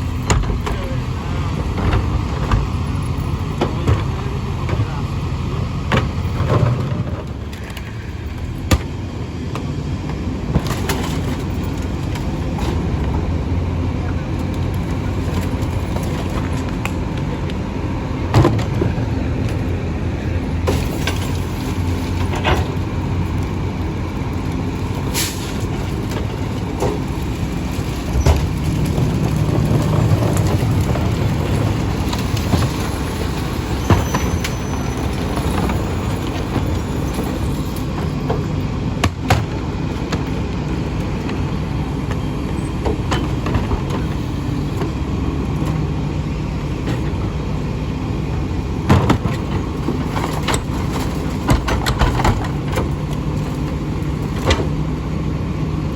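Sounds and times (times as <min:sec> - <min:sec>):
garbage truck running: 0:00.0 - 0:55.9.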